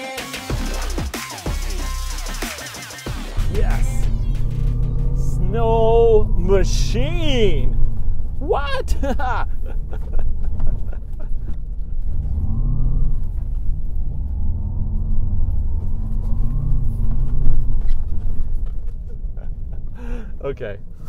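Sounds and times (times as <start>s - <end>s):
hum rising and falling in pitch: 3.1s - 20.2s
low rumble of driving on ice: 3.3s - 21.0s.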